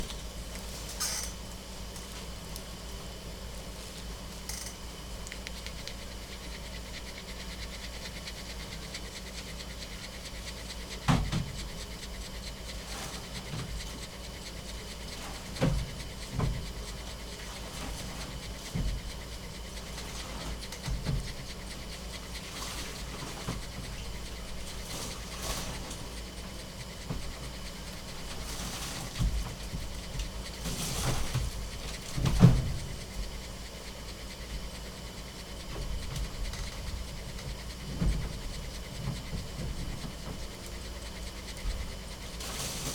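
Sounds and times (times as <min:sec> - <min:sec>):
steady hum: 0:00.0 - 0:42.9
dog panting: 0:05.7 - 0:42.5.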